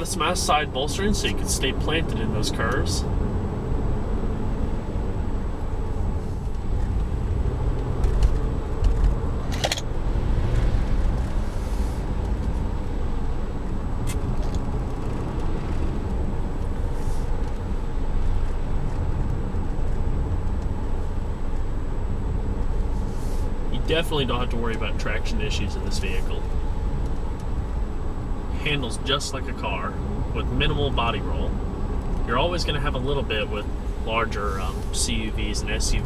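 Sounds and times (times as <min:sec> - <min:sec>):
engine and road rumble in cabin: 0:00.0 - 0:36.0.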